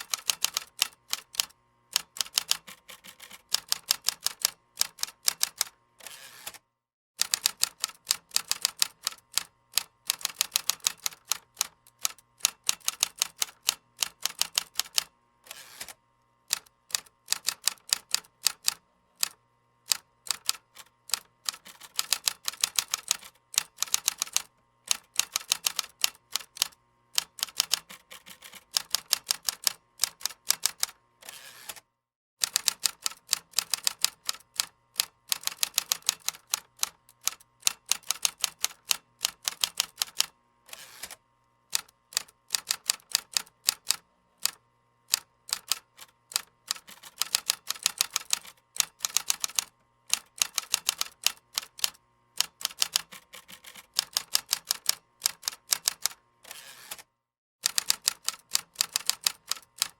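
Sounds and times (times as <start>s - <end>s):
typing on computer keyboard: 0.0s - 5.8s, 7.2s - 15.1s, 15.7s - 31.0s, 32.4s - 40.3s, 41.0s - 56.2s, 56.9s - 59.9s.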